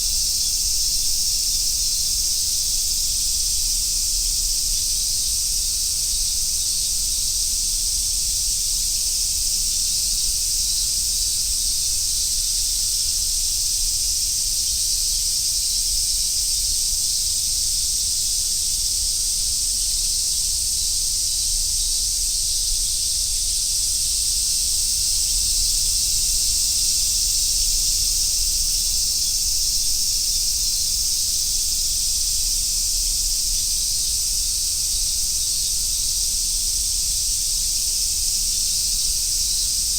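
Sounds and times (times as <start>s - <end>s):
cicadas chorus hissing: 0.0s - 39.9s.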